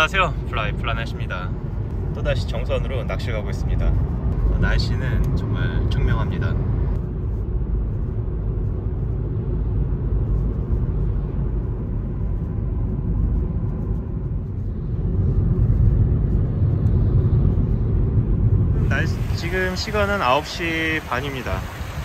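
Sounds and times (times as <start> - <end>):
car road rumble: 0.0 - 22.0
tyre and engine noise: 3.6 - 22.0.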